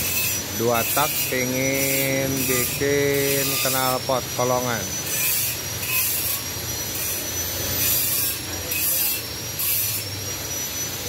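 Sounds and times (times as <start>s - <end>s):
hand tool scraping metal pipe: 0.0s - 4.1s, 5.0s - 10.1s
steady high whine: 0.0s - 11.0s.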